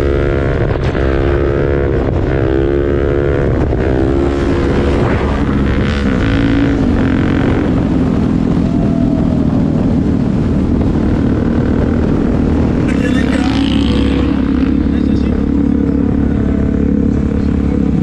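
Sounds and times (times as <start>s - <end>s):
motorcycle engine revving: 0.0s - 18.0s
wind rushing on microphone: 0.0s - 18.0s.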